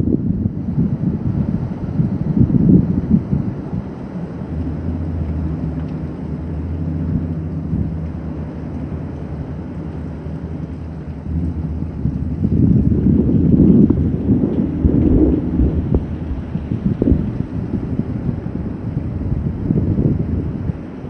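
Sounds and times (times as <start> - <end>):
rain: 0.0 - 21.0
steady low hum: 0.0 - 21.0
storm wind: 0.0 - 21.0.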